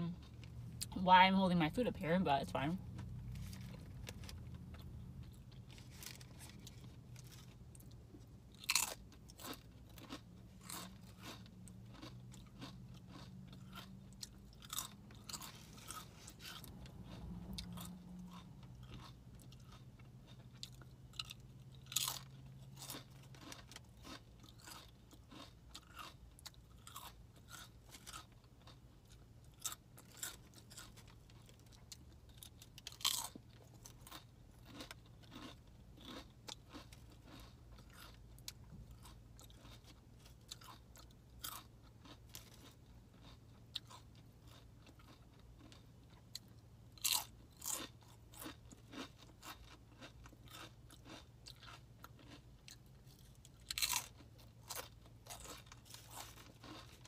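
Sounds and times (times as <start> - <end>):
chewing and crunching chips: 0.0 - 57.0.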